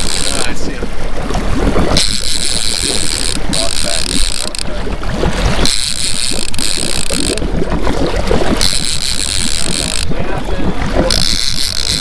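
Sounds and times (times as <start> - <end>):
boat engine droning: 0.0 - 12.0
wind and water rushing: 0.0 - 12.0.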